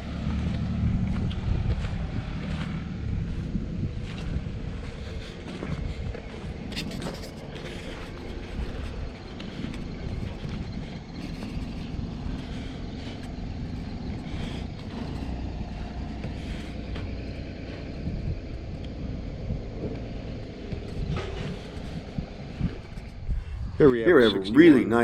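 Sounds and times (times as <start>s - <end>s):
outdoor background noise: 0.0s - 25.0s
vehicle engine running: 0.0s - 25.0s.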